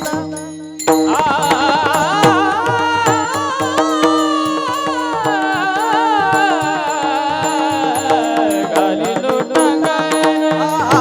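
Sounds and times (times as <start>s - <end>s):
percussion strokes: 0.0s - 11.0s
person singing long ornamented note: 0.0s - 11.0s.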